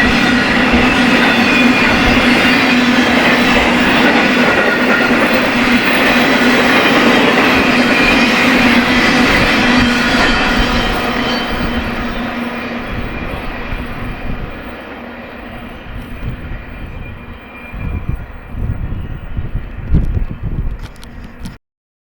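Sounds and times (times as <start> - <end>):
freight train cars rolling on rails: 0.0 - 21.6
gusty low rumbling: 0.0 - 21.6.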